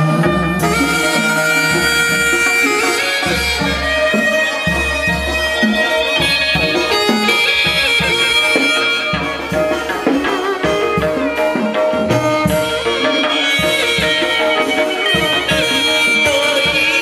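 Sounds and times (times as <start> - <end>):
drums and percussion: 0.0 - 17.0
reedy wind instrument melody: 0.0 - 17.0.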